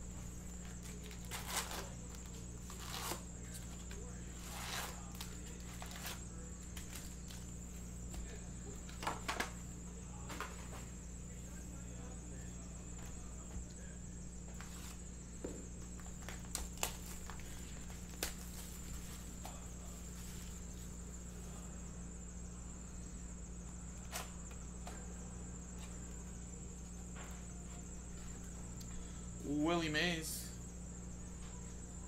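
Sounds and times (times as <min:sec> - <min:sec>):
electrical hum: 0:00.0 - 0:32.0
faint high-pitched whine: 0:00.0 - 0:32.0.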